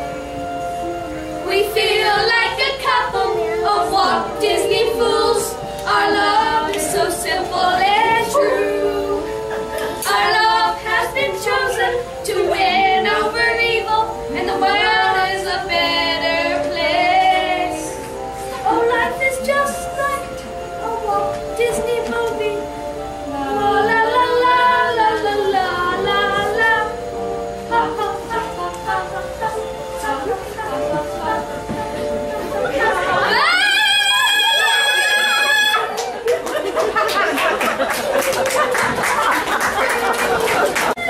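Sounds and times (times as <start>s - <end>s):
girl and boy singing: 0.0s - 36.0s
instrumental accompaniment: 0.0s - 41.0s.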